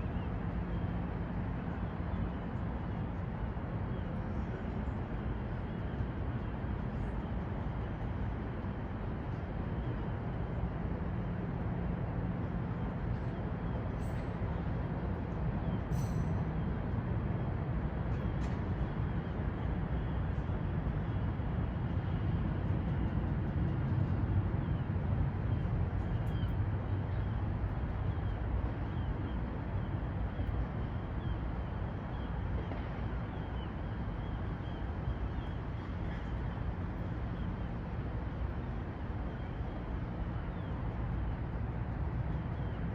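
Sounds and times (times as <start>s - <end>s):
distant traffic rumble: 0.0s - 42.9s.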